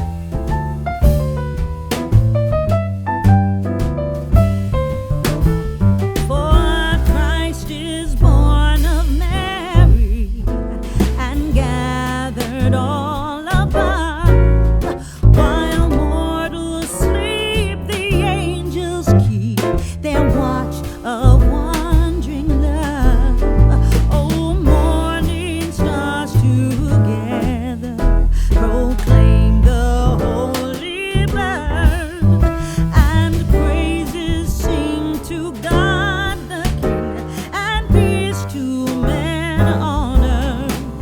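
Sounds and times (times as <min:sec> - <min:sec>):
soul song with singing voice: 0:06.2 - 0:41.0.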